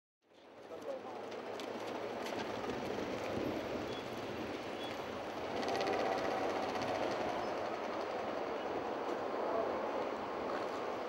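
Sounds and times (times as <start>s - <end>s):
city traffic noise: 0.4s - 11.0s.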